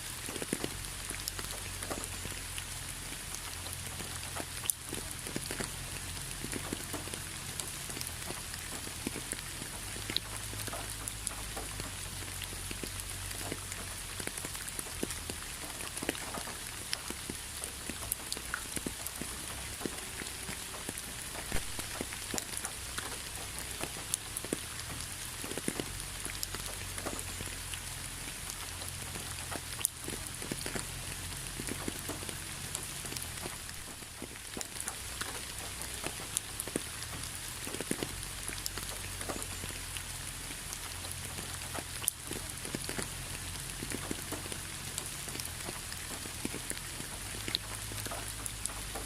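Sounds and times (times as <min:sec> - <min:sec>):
raindrops ticking on surface: 0:00.0 - 0:49.0
steady rain: 0:00.0 - 0:49.0.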